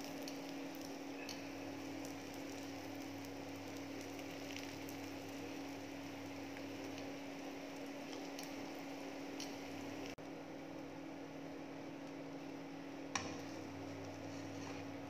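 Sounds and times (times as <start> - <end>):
faint hiss of wraps toasting: 0.0 - 15.0
low electrical hum: 0.0 - 15.0.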